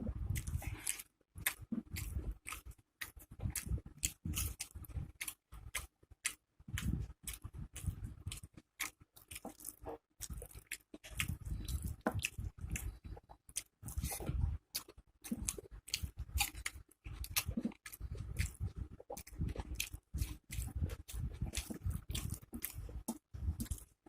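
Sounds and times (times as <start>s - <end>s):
wet chewing: 0.1s - 24.0s.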